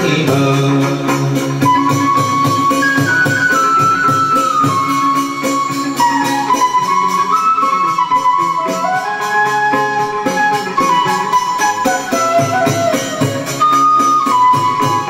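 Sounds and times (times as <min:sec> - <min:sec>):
melody of held notes: 0:00.0 - 0:15.0.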